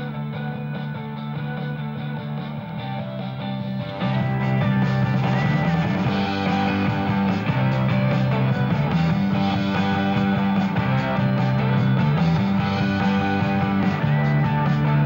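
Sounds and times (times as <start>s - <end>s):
background guitar music: 0.0s - 15.0s.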